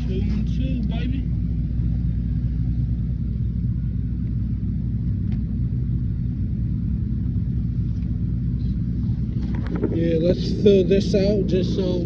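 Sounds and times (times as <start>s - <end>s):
hvac equipment humming: 0.0s - 12.0s.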